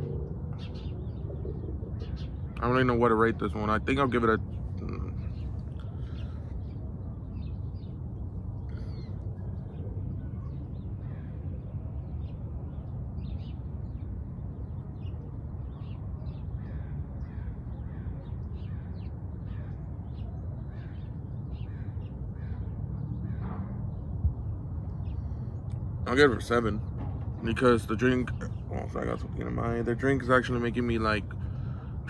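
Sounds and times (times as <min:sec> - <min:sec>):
birds calling: 0:00.0 - 0:32.0
steady low rumble: 0:00.0 - 0:32.0.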